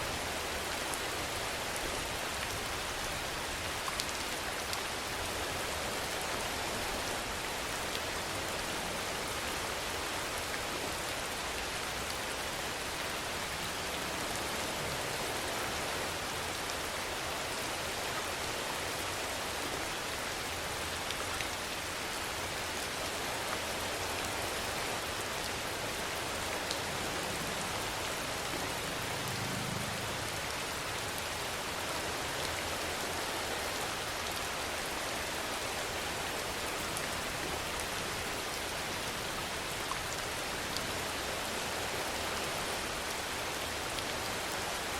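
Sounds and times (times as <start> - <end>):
steady rainfall: 0.0 - 44.9.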